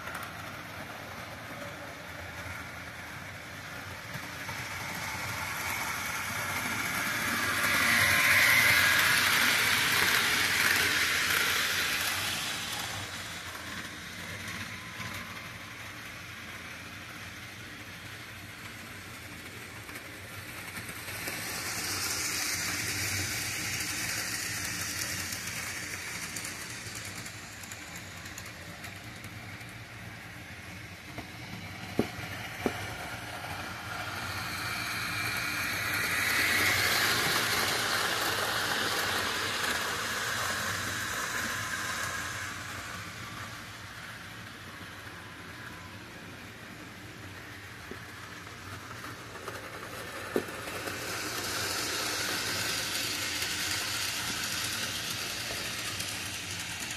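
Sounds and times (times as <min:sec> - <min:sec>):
model train cars rattling: 0:00.0 - 0:56.9.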